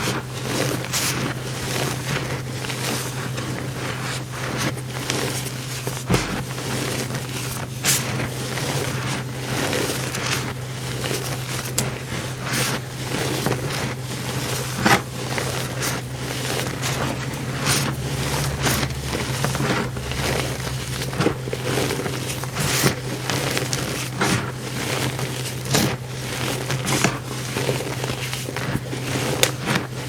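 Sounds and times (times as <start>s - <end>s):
powder blocks crunching by hand: 0.0s - 30.0s
steady low hum: 0.0s - 30.0s.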